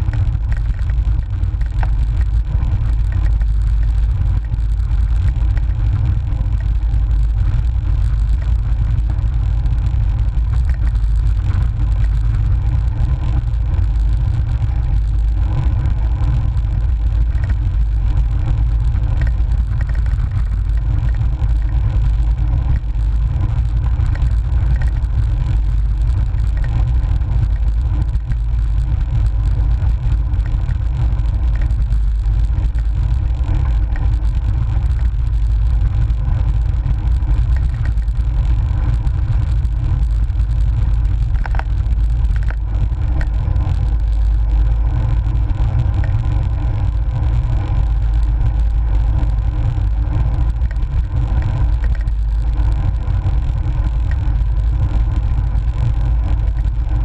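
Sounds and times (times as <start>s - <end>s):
road vibration rumble: 0.0s - 57.0s.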